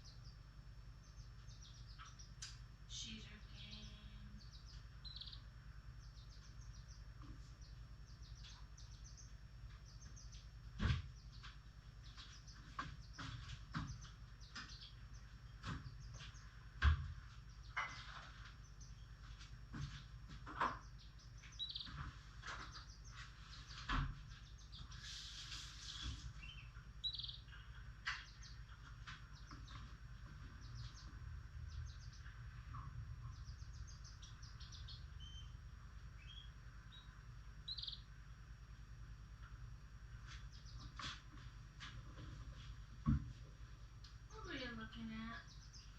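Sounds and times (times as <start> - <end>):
lovebirds chirping: 0.0 - 45.9
steady low hum: 0.0 - 45.9.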